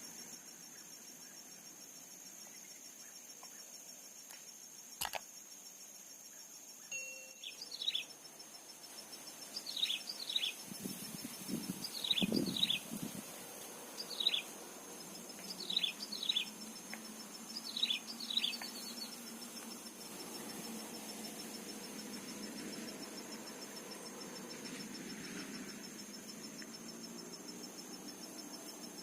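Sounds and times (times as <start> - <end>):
high insect drone: 0.0 - 29.0
rustle: 0.0 - 29.0.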